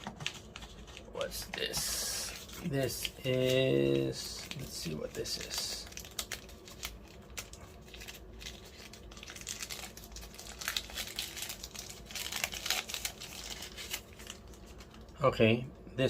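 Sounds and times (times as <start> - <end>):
packaging crinkling and rustling: 0.0 - 15.2.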